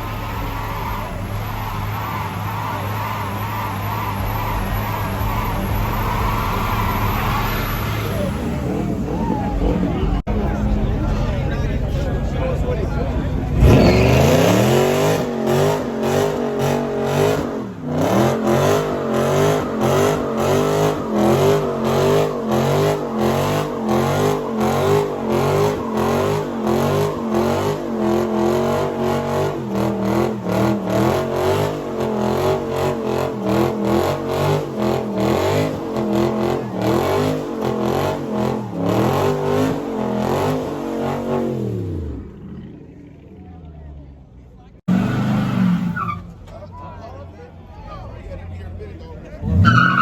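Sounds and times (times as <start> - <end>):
car engine revving: 0.0 - 46.5.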